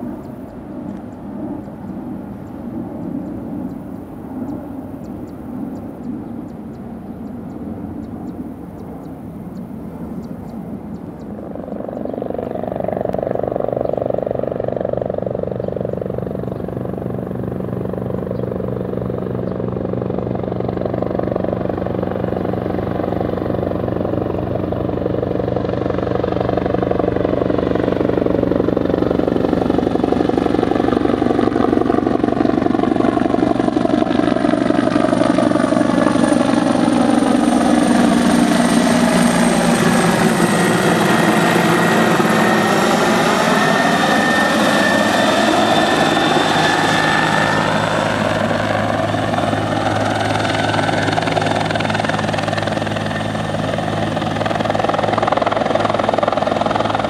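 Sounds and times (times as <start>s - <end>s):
helicopter taking off: 0.0s - 57.0s.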